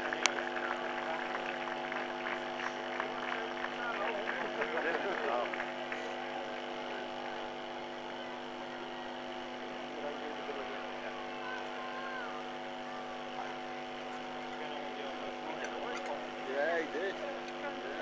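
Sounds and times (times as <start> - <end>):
faint distant voices: 0.0 - 18.0
steady hum of held tones: 0.0 - 18.0.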